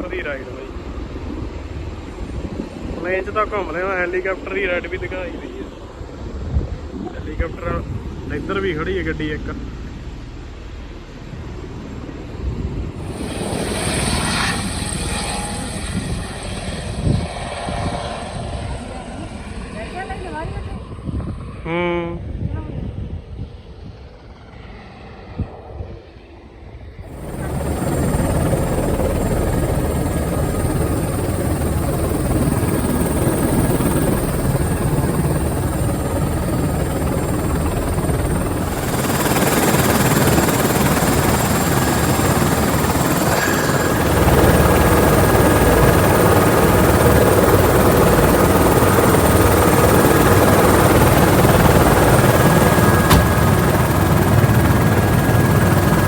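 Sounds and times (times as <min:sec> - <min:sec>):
helicopter rotor and turbine noise: 0:00.0 - 0:56.0.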